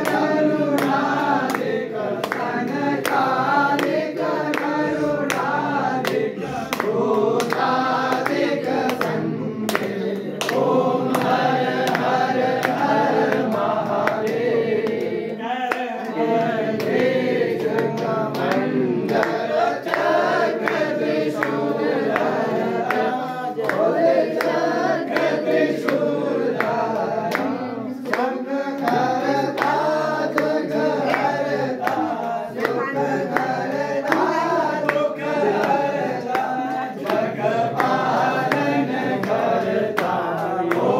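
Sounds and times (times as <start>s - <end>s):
group singing a hymn: 0.0s - 40.9s
sharp clap-like beats: 0.0s - 40.9s.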